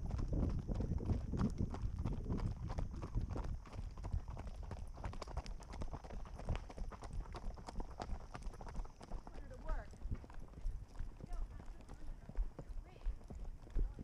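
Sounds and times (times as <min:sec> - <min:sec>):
horse hooves on gravel: 0:00.0 - 0:14.0.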